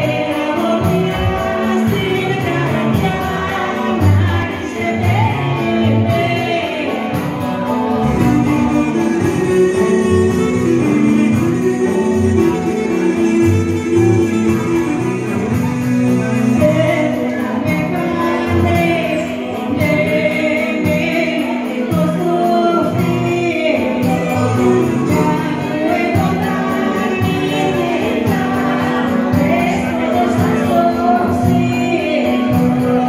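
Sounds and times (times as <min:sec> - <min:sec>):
guitar: 0:00.0 - 0:33.0
person singing: 0:00.0 - 0:33.0.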